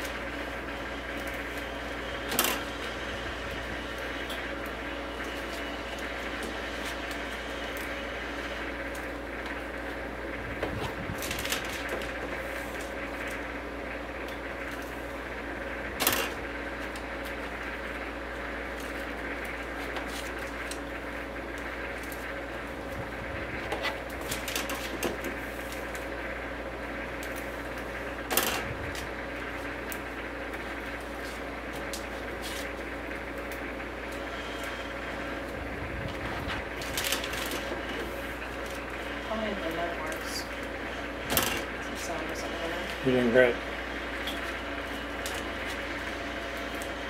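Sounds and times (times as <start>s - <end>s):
steady machine hum: 0.0s - 47.0s.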